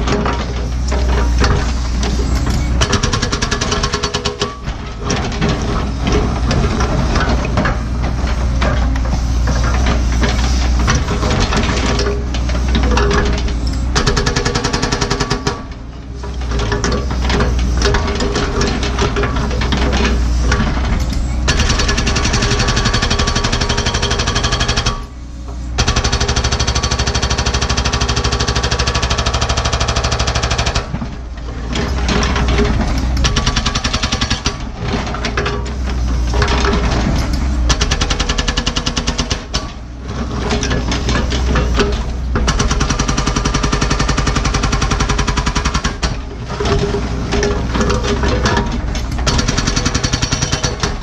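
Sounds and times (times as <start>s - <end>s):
hydraulic hammer pounding rock: 0.0s - 25.1s, 25.8s - 51.0s
diesel engine running: 0.0s - 51.0s.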